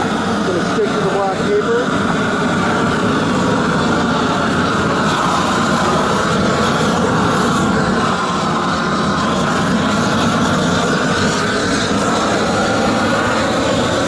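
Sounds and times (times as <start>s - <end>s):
propane torch rushing: 0.0s - 14.0s.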